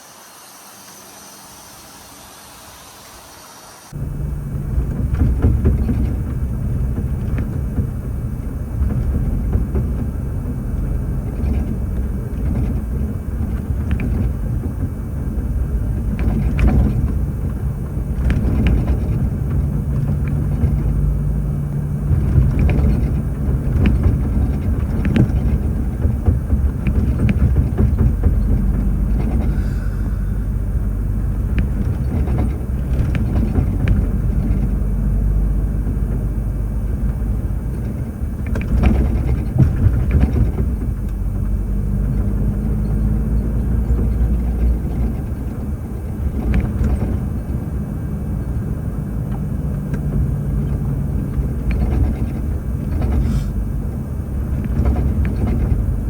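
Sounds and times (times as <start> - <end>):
heavy truck engine rumble: 3.8 - 56.0
knocks and rattles: 4.0 - 56.0.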